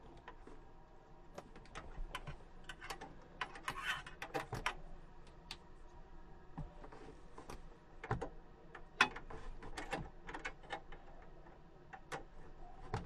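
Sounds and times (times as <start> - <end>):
faint irregular clicks and taps: 0.0 - 0.6, 1.3 - 13.0.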